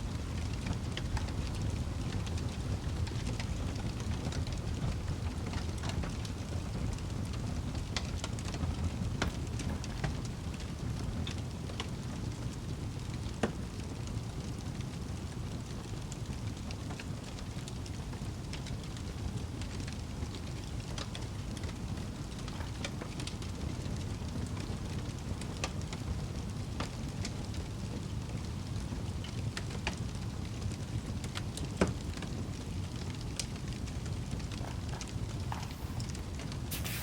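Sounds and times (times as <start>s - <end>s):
fireplace fire crackling: 0.0s - 37.0s.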